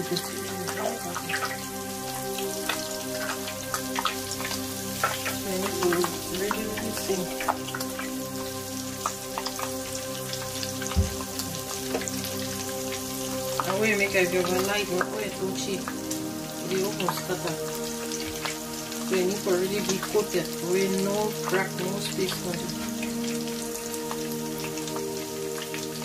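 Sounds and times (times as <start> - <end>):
background music: 0.0 - 26.0
oil crackling and sizzling in fryer: 0.0 - 26.0.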